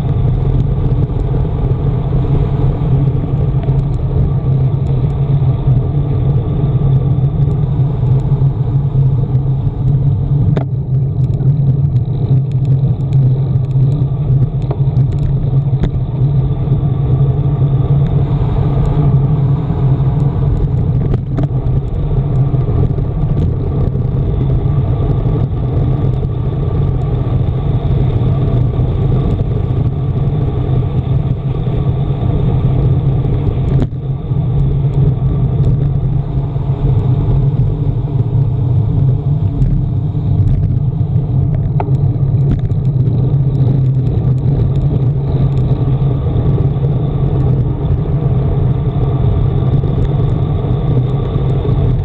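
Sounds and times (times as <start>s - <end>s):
wind rushing over microphone: 0.0s - 52.0s.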